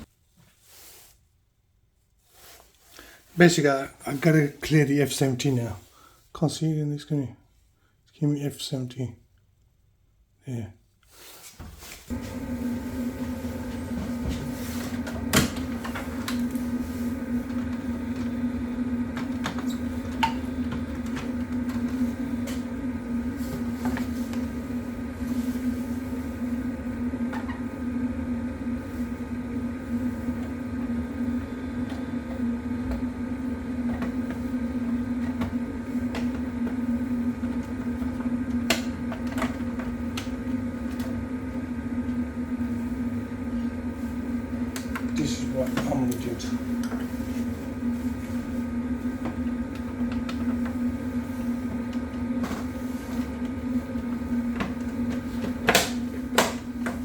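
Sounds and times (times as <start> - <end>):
mechanical hum: 11.2 - 57.0.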